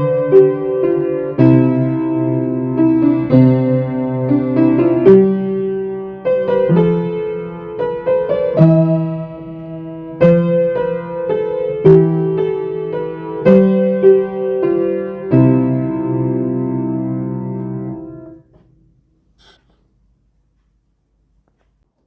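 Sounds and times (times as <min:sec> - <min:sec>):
solo piano playing a carol: 0:00.0 - 0:18.5.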